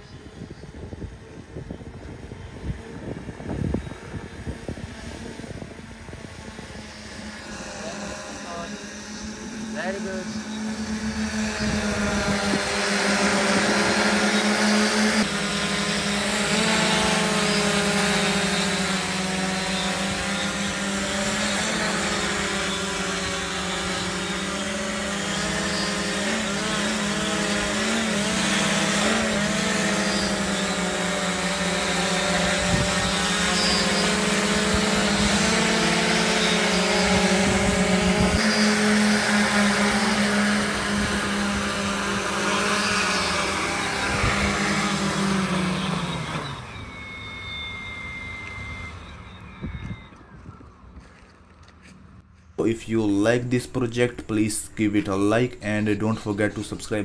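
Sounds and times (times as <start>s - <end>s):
drone propellers buzzing: 0.0s - 51.0s.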